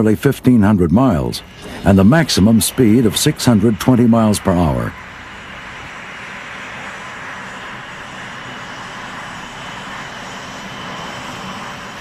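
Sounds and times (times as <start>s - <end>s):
faint low hum: 0.0s - 12.0s
jet engine running: 0.0s - 12.0s.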